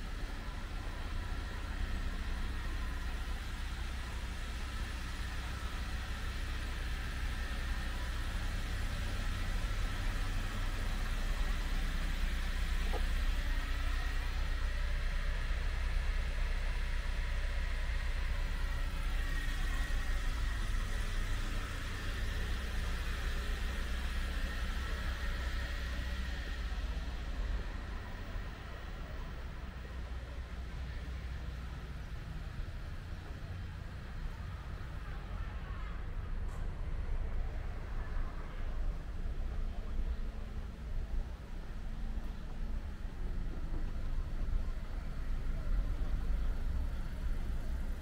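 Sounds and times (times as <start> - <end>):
vehicle engine rumbling: 0.0 - 48.0.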